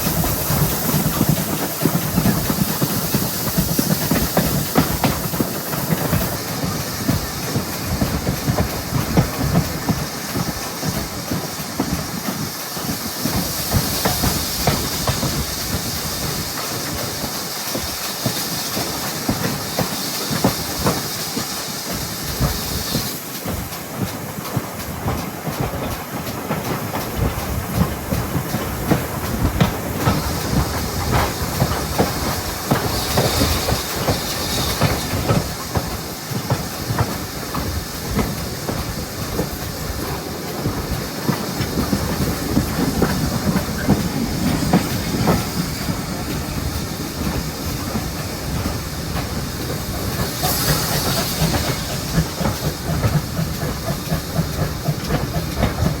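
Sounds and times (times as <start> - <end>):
higher steam hiss: 0.0 - 56.0
steam hissing: 0.0 - 56.0
train wheels clattering on rail: 0.0 - 56.0.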